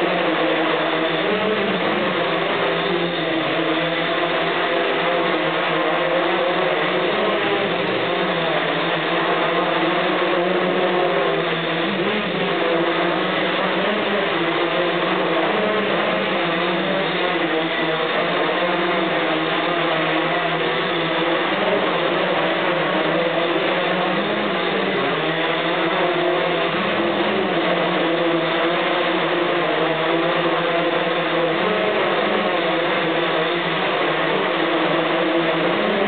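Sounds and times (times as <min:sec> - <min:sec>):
drone propellers whirring: 0:00.0 - 0:36.0.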